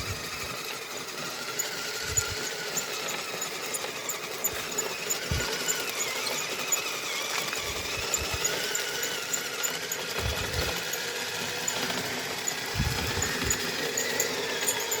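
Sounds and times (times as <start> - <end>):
electric motor whining: 0.0 - 15.0
track and gear clatter: 0.0 - 15.0.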